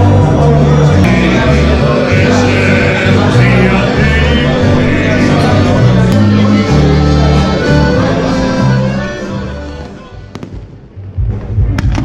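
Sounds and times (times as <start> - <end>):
accordion and guitars playing: 0.0 - 10.4
bass line: 0.0 - 10.5
man singing: 0.1 - 10.2.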